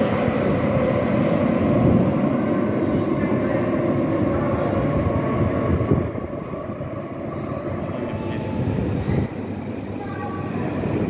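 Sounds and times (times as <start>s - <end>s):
metro train rumbling past: 0.0s - 11.0s.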